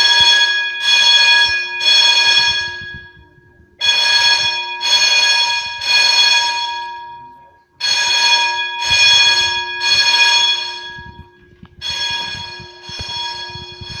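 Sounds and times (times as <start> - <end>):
fire alarm bell ringing: 0.0 - 14.0.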